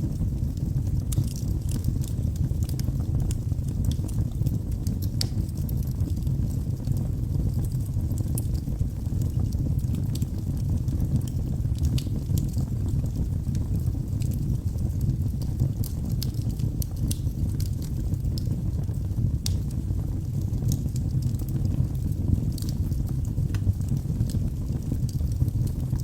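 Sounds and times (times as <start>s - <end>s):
fire crackling and popping: 0.0s - 26.0s
fire rumbling: 0.0s - 26.0s.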